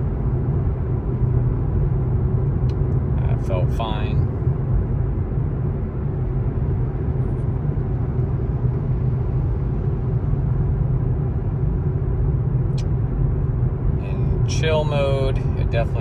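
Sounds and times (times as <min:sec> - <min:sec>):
road and tyre rumble: 0:00.0 - 0:16.0.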